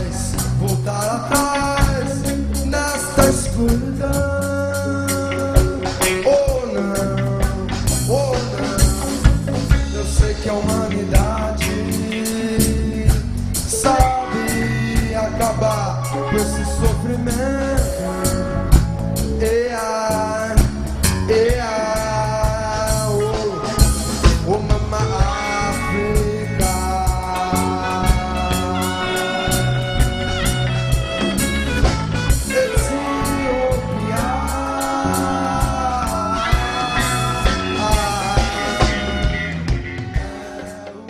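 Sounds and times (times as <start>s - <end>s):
reggae song with vocals: 0.0s - 41.0s.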